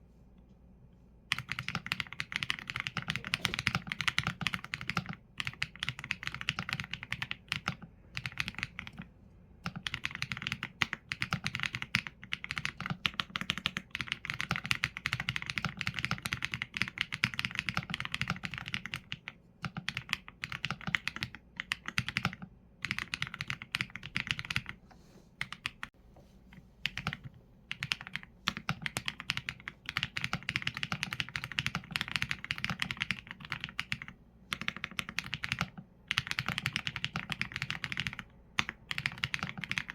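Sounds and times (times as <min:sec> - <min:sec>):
mechanical keyboard typing: 0:01.3 - 0:24.8, 0:26.8 - 0:39.9.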